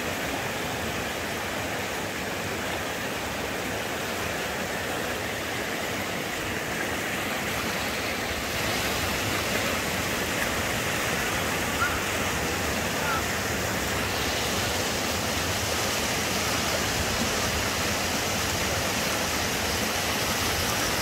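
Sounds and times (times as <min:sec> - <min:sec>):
river rushing over rapids: 0:00.0 - 0:21.0.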